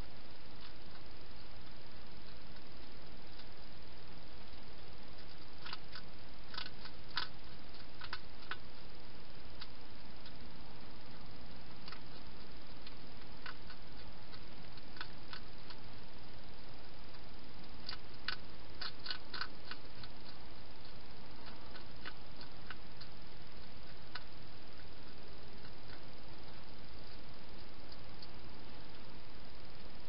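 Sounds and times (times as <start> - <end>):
steady hiss: 0.0 - 30.0
hedgehog crunching dry food: 0.3 - 29.1.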